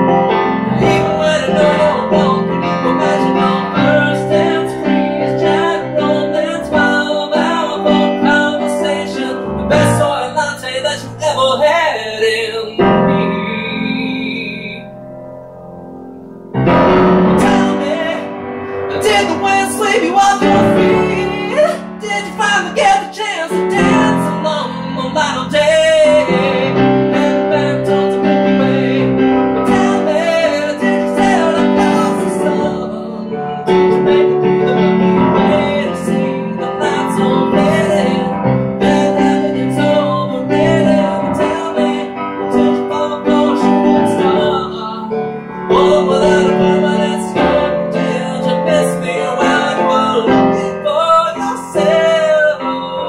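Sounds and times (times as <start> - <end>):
man singing: 0.0 - 15.0, 17.2 - 53.0
grand piano chords: 0.0 - 53.0.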